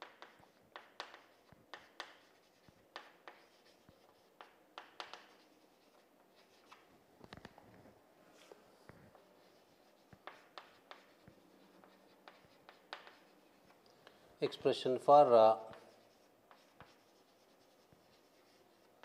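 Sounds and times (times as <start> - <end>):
chalk scratching on chalkboard: 0.0 - 6.9, 8.4 - 14.2, 15.2 - 19.0.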